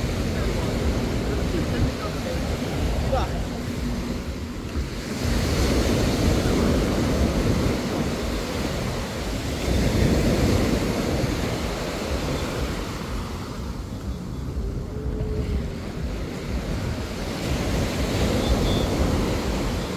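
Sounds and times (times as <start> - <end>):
surf washing onto sand: 0.0 - 19.9
wind buffeting microphone: 0.0 - 19.9.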